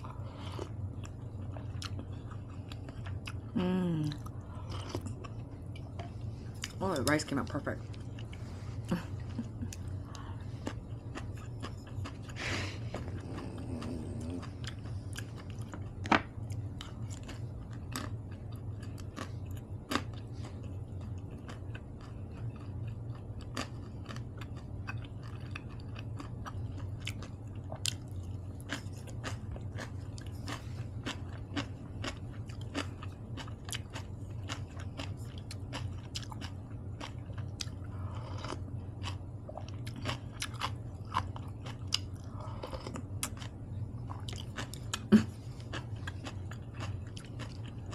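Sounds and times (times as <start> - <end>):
low steady hum: 0.0 - 47.9
person chewing food: 0.0 - 47.9.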